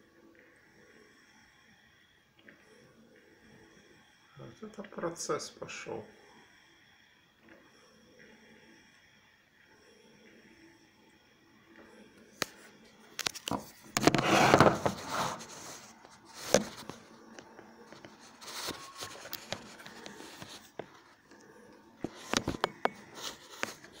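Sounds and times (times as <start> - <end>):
coffee maker gurgling and hissing: 0.0 - 24.0.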